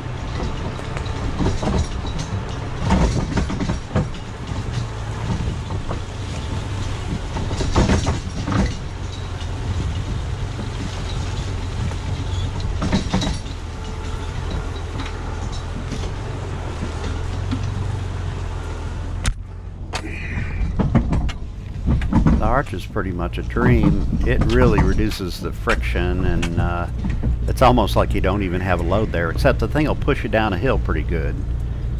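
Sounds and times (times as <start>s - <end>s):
car engine pulling at low speed: 0.0s - 31.9s
clunks and rattles: 0.0s - 31.9s.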